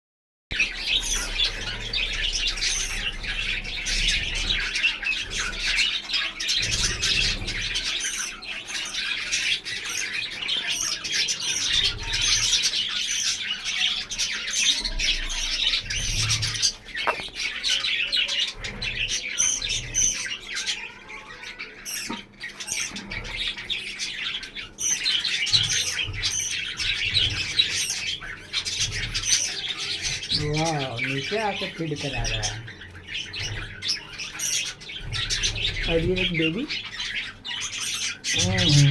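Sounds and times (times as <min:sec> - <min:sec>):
budgerigars chattering: 0:00.5 - 0:38.9.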